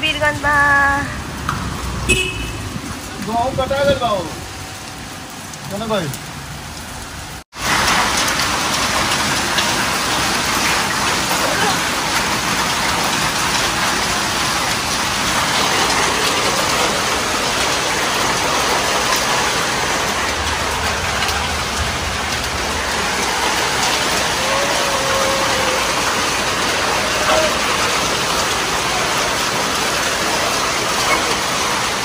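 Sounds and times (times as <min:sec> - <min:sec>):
heavy rain on rooftops: 0:00.0 - 0:32.0.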